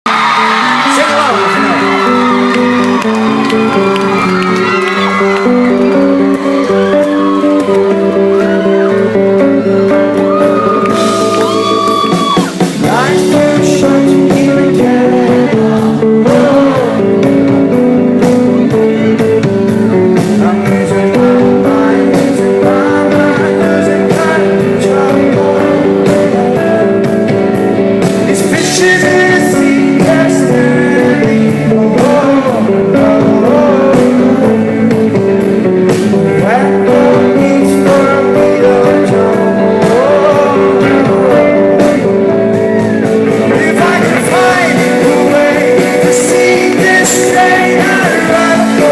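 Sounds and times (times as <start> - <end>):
rock band playing live: 0.0 - 48.9
lead singer singing: 0.1 - 48.9.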